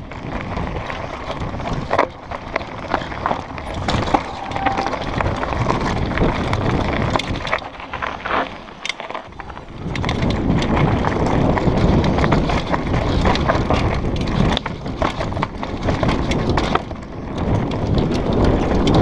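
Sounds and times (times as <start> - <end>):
tyres rumbling on dirt and stones: 0.0 - 19.0
wind buffeting microphone: 0.0 - 19.0.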